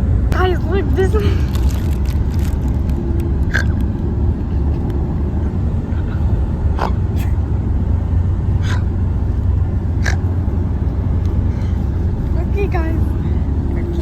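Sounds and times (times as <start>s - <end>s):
road rumble inside car: 0.0s - 14.0s.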